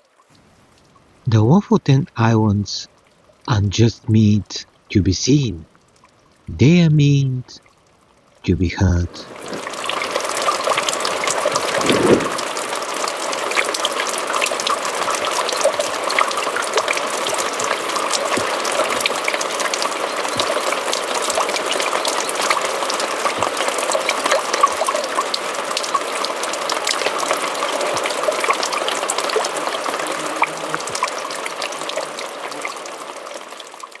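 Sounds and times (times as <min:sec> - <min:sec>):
water trickling down rocks: 0:00.0 - 0:01.3, 0:05.6 - 0:06.5, 0:07.6 - 0:08.4, 0:09.2 - 0:34.0.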